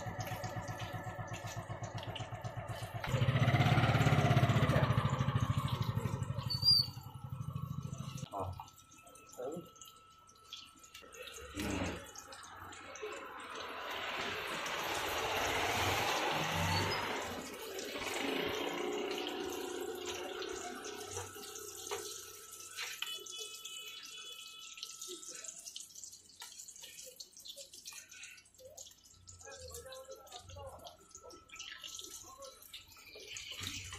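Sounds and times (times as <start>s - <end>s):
hot oil sizzling: 0.0s - 33.9s.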